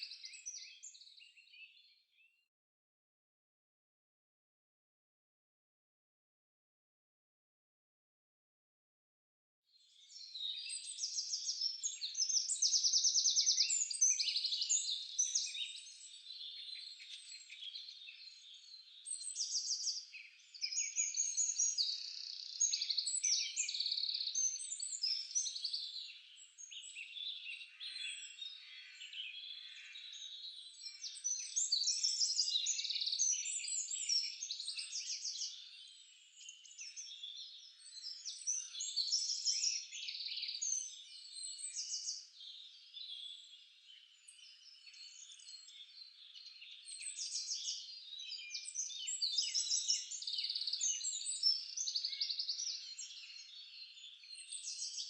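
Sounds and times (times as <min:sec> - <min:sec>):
birds chirping and singing: 0:09.9 - 0:55.0.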